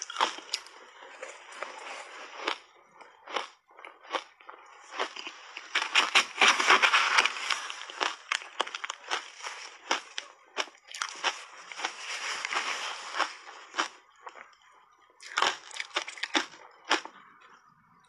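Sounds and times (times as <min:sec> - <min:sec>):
chewing crunchy shaved ice: 0:00.0 - 0:17.4.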